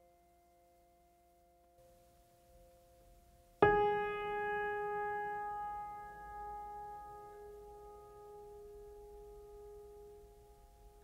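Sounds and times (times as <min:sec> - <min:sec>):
soft steady ringing tone: 0:00.0 - 0:11.0.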